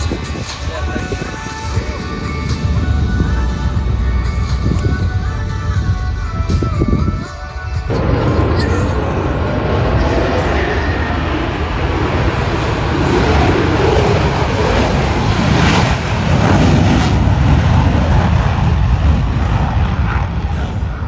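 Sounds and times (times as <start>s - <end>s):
jet aircraft roaring past: 0.0s - 21.0s.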